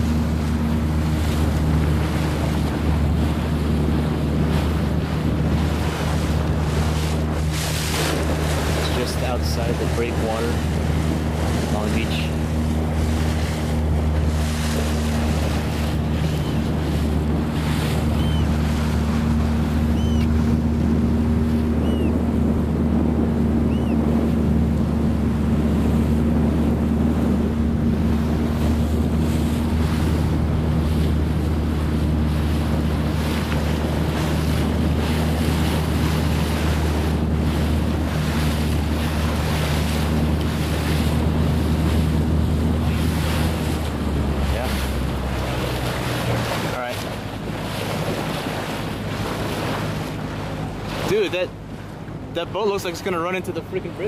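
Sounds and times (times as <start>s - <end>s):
motorboat engine humming: 0.0s - 54.0s
water splashing past hull: 0.0s - 54.0s
wind buffeting microphone: 0.0s - 54.0s.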